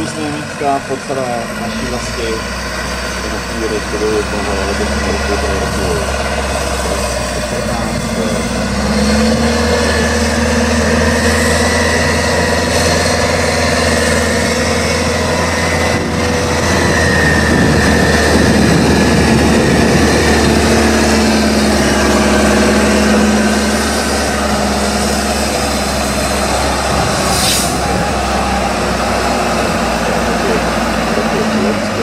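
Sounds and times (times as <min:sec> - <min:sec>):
truck diesel engine under load: 0:00.0 - 0:32.0.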